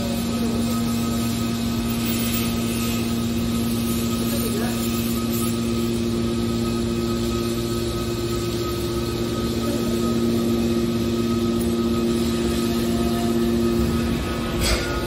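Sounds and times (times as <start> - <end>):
high whine: 0.0 - 15.0
hydraulic baler humming: 0.0 - 15.0.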